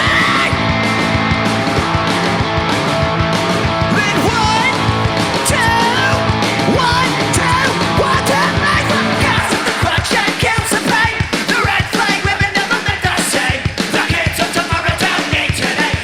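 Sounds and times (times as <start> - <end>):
high sliding lead guitar: 0.0 - 16.0
punk rock band playing: 0.0 - 16.0.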